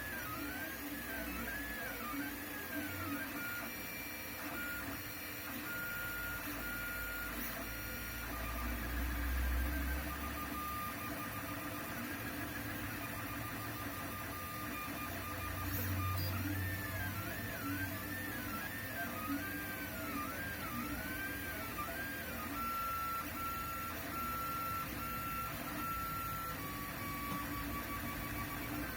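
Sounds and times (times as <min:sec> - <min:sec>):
printer stepper motors whining: 0:00.0 - 0:28.9.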